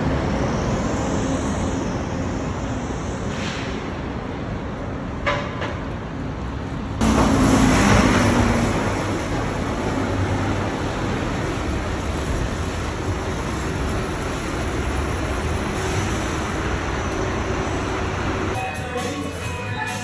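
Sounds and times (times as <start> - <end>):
bus pulling away: 0.0 - 5.3, 6.4 - 20.0
traffic rumble and tyres: 0.0 - 19.1.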